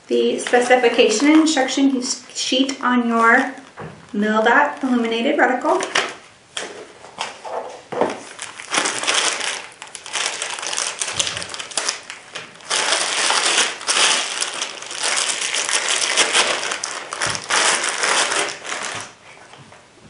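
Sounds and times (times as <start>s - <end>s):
packaging crinkling by hand: 0.2s - 19.4s.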